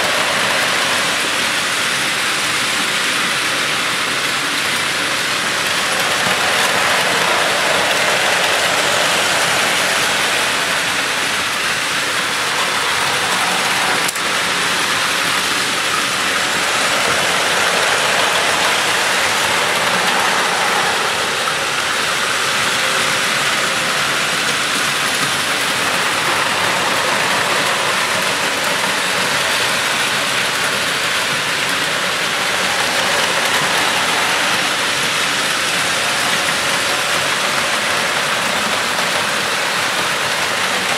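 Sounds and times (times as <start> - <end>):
toy trains whirring and rattling: 0.0 - 40.9.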